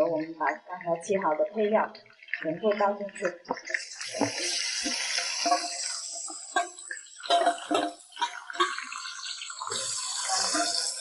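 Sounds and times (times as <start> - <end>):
aromatics sizzling in hot oil: 1.0 - 11.0.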